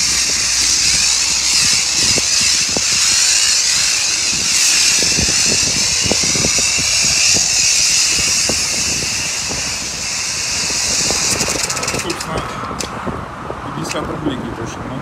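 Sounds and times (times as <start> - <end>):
pressure washer water jet hissing: 0.0 - 12.3.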